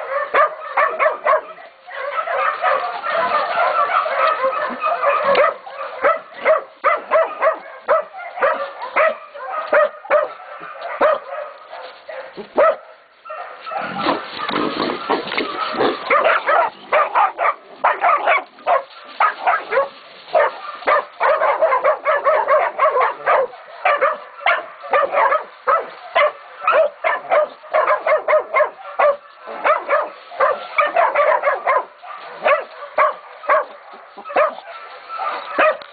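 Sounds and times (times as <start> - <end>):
puppies barking: 0.0 - 35.9.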